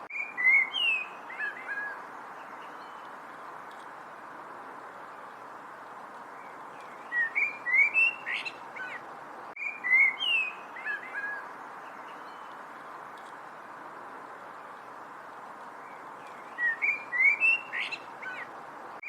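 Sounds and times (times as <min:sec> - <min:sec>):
songbird singing: 0:00.0 - 0:19.0
steady background hiss: 0:00.0 - 0:19.0.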